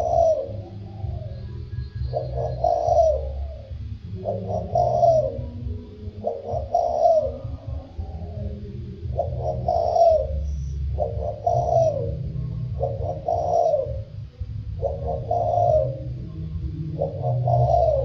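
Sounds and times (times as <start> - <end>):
dove cooing: 0.0 - 18.0
low rumble: 0.0 - 18.0.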